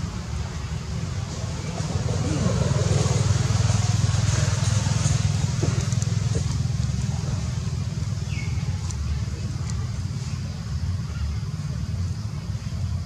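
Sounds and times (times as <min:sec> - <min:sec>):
passing motor vehicle rumble: 0:00.0 - 0:13.0.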